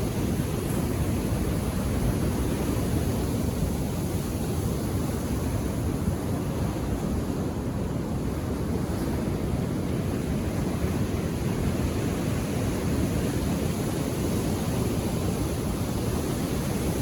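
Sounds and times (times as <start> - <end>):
ocean waves on shore: 0.0 - 17.0.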